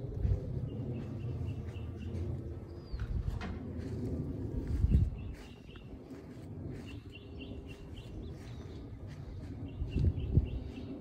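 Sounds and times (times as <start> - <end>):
dull low bumps: 0.0 - 10.7
steady low rumble: 0.0 - 11.0
songbird chirping: 0.2 - 3.9, 4.5 - 11.0.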